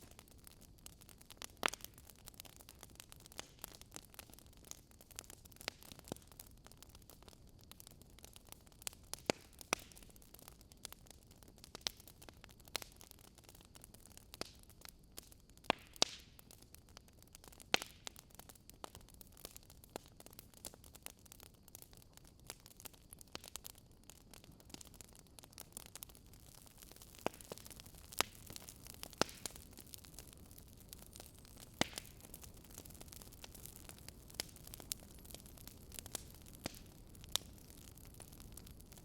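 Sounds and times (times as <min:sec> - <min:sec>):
campfire crackling and popping: 0:00.0 - 0:39.0
faint steady hiss: 0:00.0 - 0:39.0.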